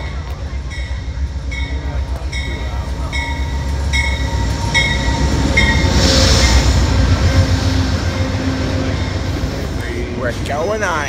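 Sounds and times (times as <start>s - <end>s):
locomotive bell: 0.0s - 9.7s
diesel locomotive engine rumbling: 0.0s - 11.0s.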